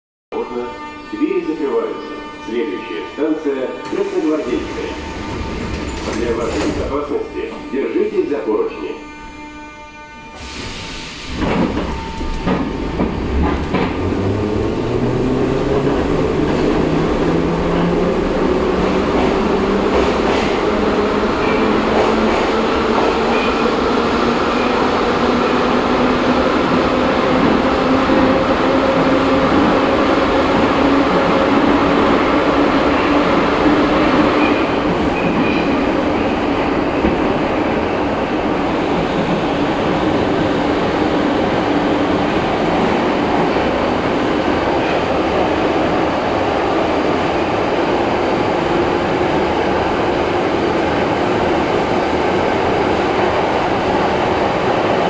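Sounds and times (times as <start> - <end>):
train wheels rumbling on track: 3.8 - 8.2, 10.3 - 55.0.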